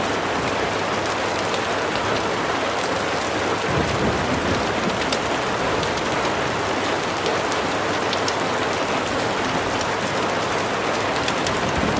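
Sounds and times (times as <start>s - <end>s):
rain falling on a surface: 0.0s - 11.9s.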